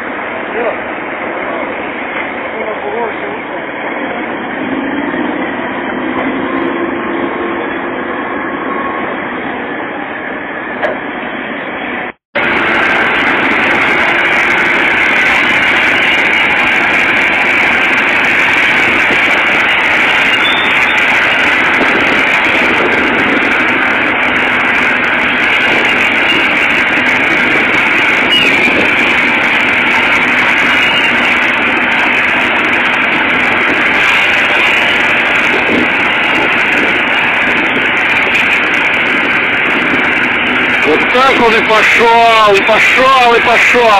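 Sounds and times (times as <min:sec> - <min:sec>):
diesel earthmoving machinery running: 0:00.0 - 0:43.9.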